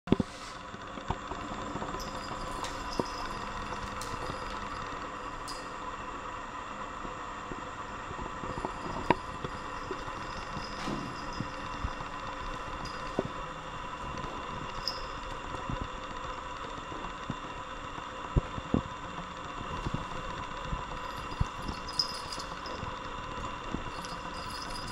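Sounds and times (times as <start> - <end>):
steady mechanical hum: 0.1 - 24.9.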